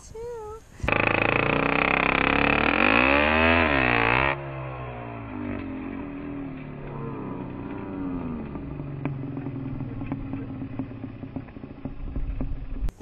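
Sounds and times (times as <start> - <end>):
two-stroke dirt bike engine revving: 0.8 - 13.0.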